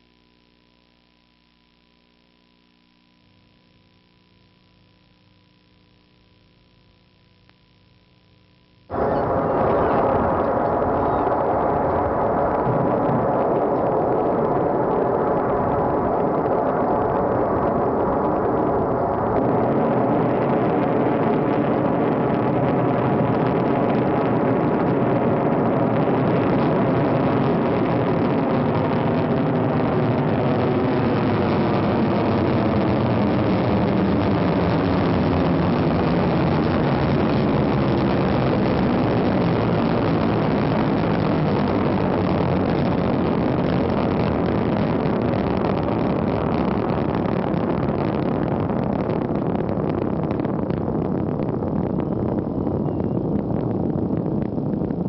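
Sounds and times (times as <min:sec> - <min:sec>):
rocket engine rumble: 0:08.9 - 0:55.0.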